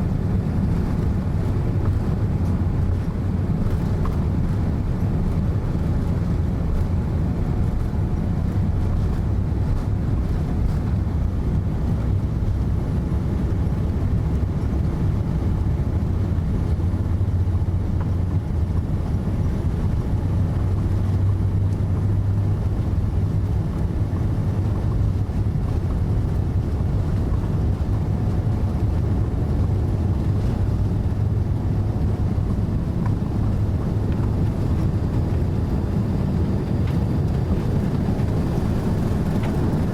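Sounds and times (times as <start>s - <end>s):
airplane engine and airflow rumble: 0.0s - 39.9s.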